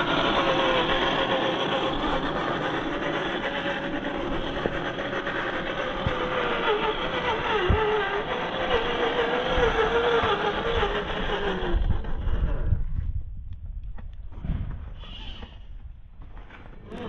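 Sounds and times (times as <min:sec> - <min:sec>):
electric motor whining: 0:00.0 - 0:13.1, 0:14.6 - 0:17.0
scraping grinding noise: 0:00.0 - 0:17.0.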